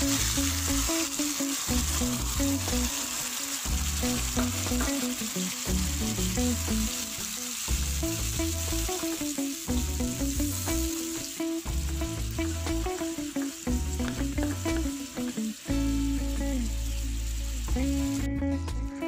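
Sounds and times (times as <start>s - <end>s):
gravy bubbling and sizzling in pan: 0.0s - 18.2s
background music: 0.0s - 19.0s.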